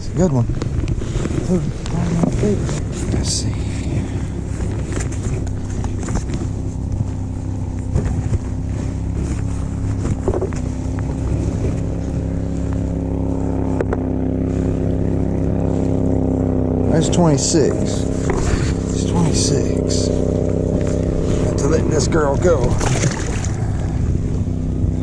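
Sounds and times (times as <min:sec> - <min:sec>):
motor engine droning: 0:00.0 - 0:25.0.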